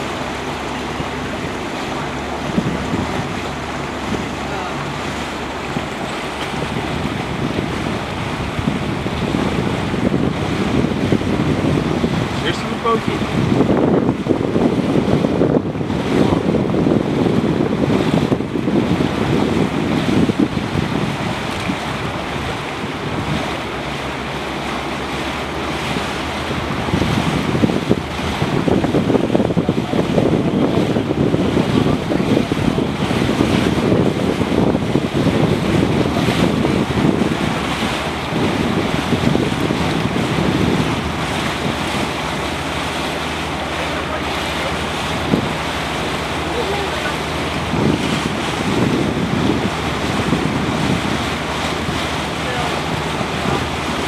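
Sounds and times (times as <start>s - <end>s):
water rushing past boat: 0.0s - 54.0s
wind buffeting microphone: 0.0s - 54.0s.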